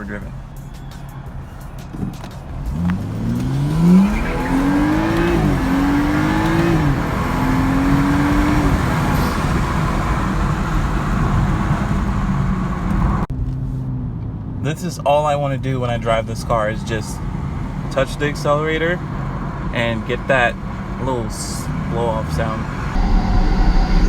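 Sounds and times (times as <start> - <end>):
road noise: 0.0 - 24.0
car engine accelerating hard: 1.1 - 24.0.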